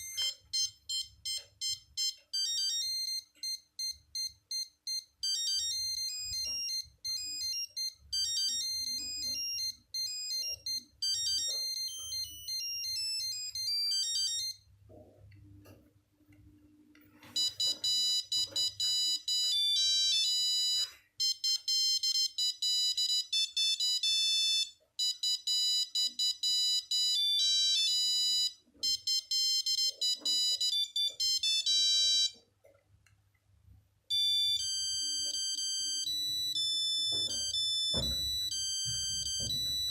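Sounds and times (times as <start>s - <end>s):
beeping phone ringtones: 0.0s - 14.7s, 17.2s - 32.4s, 34.1s - 39.9s.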